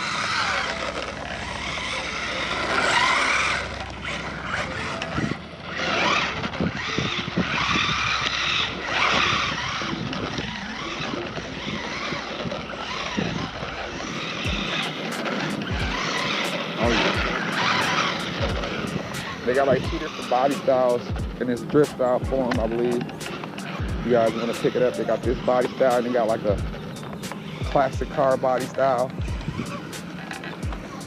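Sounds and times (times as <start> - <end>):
toy car motor running: 0.0 - 31.0
tyres scrubbing on tarmac: 0.0 - 31.0.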